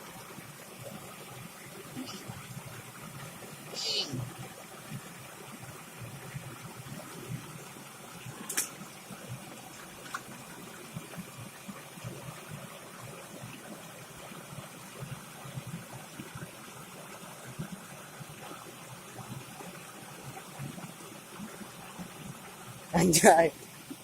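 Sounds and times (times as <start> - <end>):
stream water babbling: 0.0 - 24.0.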